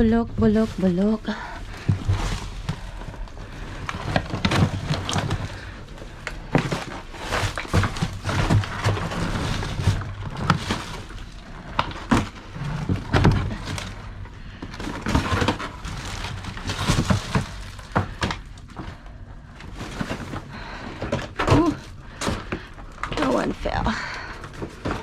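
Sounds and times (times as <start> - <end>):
bags rustling: 0.0 - 25.0.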